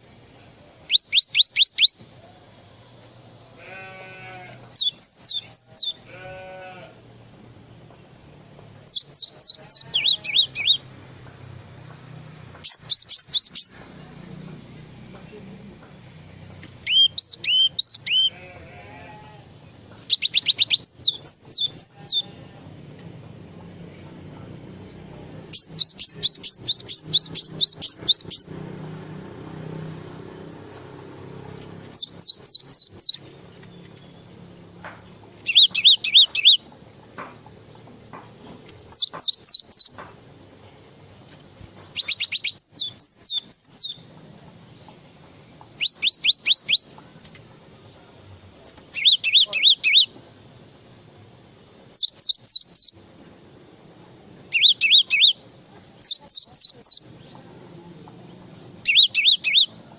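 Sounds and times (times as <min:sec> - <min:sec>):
songbird chip notes: 0:00.0 - 0:03.5, 0:04.2 - 0:06.1, 0:08.0 - 0:18.5, 0:19.5 - 0:40.0, 0:40.6 - 0:51.0, 0:51.7 - 0:59.9.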